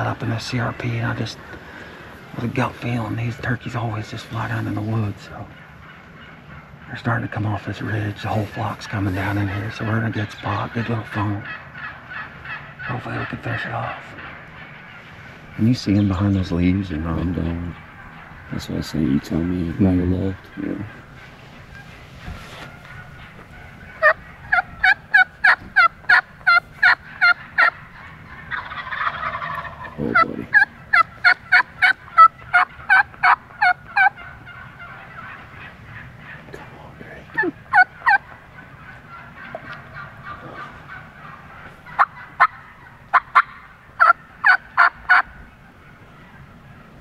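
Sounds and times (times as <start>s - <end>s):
turkeys yelping: 0.0s - 47.0s.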